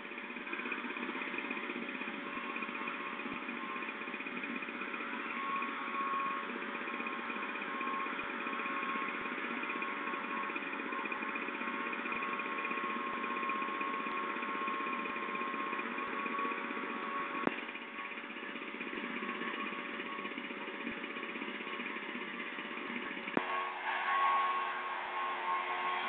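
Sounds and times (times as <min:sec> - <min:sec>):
sprayer engine running: 0:00.0 - 0:26.0.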